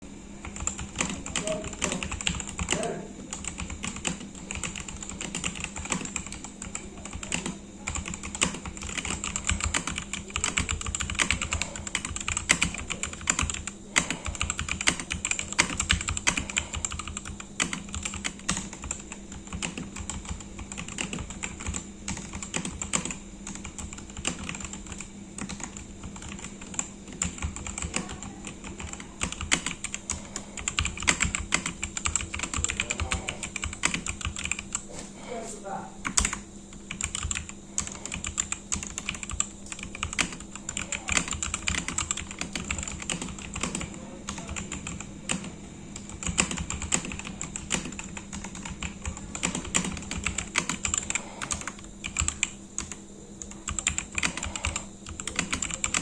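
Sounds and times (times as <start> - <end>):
faint steady hum: 0.0 - 56.0
fast typing on mechanical keyboard: 0.4 - 34.8, 36.0 - 56.0.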